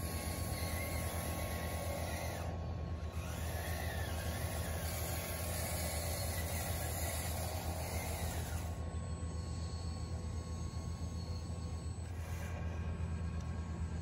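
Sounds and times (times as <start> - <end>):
model truck motor whine: 0.0 - 14.0.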